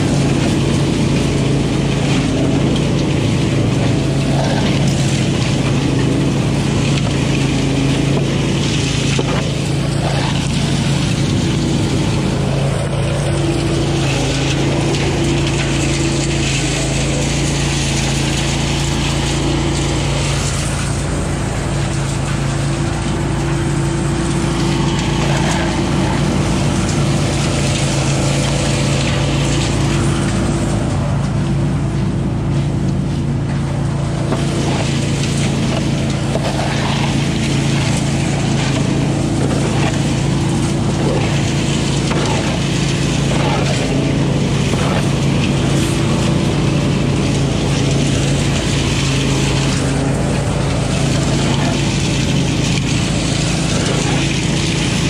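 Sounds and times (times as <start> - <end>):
dry leaves rattling in nozzle: 0.0 - 55.0
leaf vacuum engine hum: 0.0 - 55.0.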